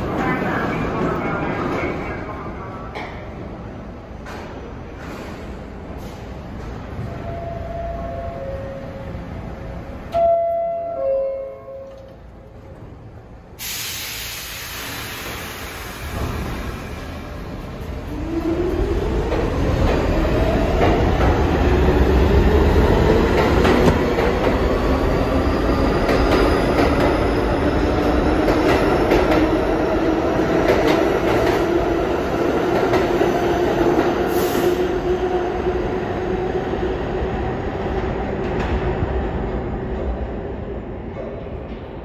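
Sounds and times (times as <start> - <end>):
subway train motors whining: 0.0 - 42.0.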